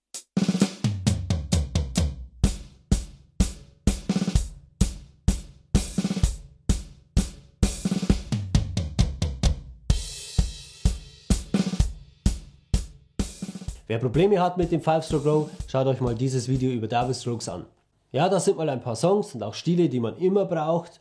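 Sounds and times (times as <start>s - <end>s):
drum kit playing tango rhythm: 0.0s - 17.5s
snare drum rolls: 0.3s - 17.2s.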